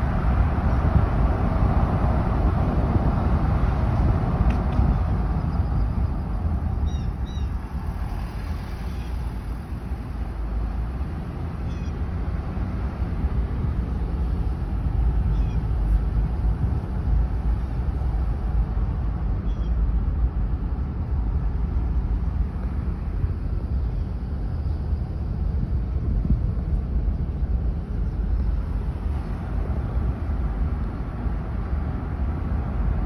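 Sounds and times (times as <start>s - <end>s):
car cabin road and engine rumble: 0.0s - 33.0s.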